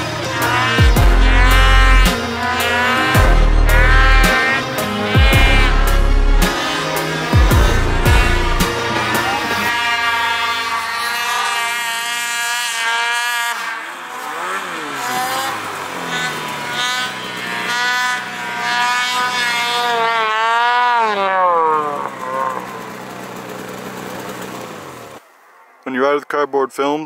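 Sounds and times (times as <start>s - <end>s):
snowmobile engine revving: 0.0s - 25.2s.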